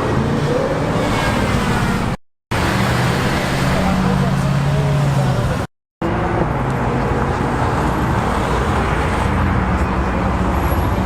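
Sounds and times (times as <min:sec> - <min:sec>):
street traffic drone: 0:00.0 - 0:11.0.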